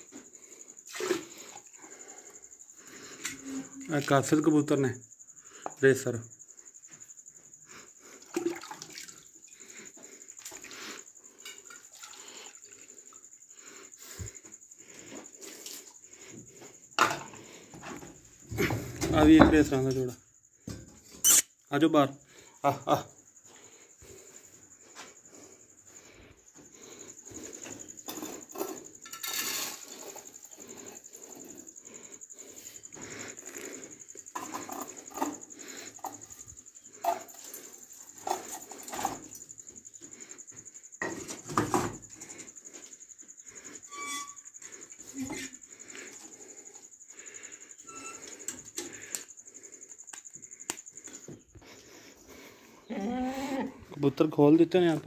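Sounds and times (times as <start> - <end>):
high insect trill: 0.0 - 55.0.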